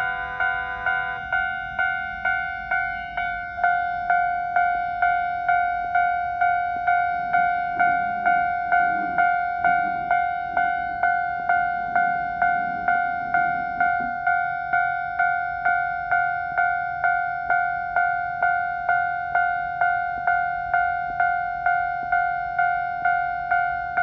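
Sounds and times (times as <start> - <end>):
level crossing bell dinging: 0.0 - 24.0.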